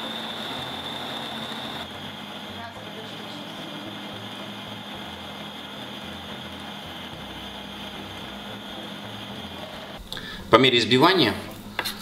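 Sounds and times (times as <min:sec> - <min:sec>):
food processor grinding peanuts: 0:00.0 - 0:10.0.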